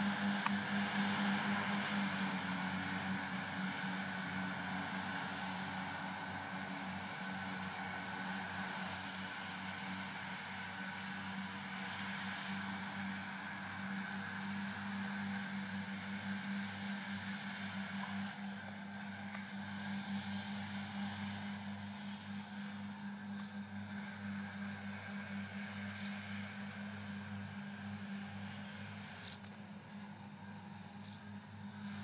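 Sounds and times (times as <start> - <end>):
tractor engines droning: 0.0 - 32.0.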